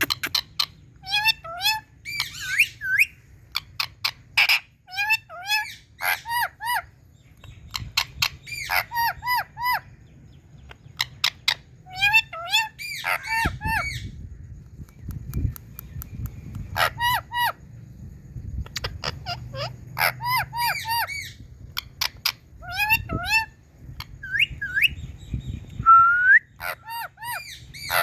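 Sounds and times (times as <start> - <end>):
parakeet calling: 0.0 - 14.6, 15.6 - 25.8, 26.4 - 28.0.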